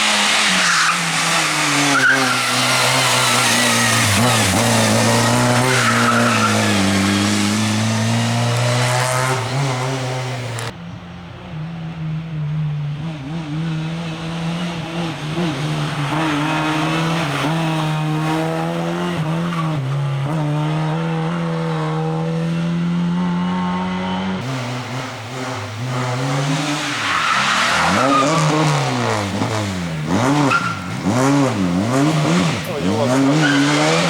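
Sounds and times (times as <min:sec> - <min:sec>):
rally car engine revving: 0:00.0 - 0:10.8, 0:11.4 - 0:34.0.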